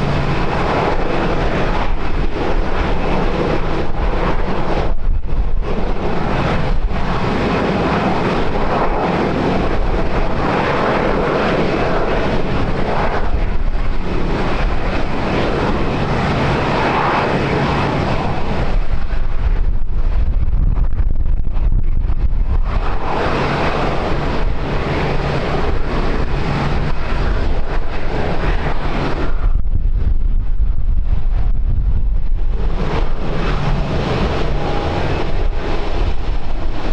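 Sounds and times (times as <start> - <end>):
airliner engines rumbling: 0.0 - 36.9
wind buffeting microphone: 0.0 - 36.9.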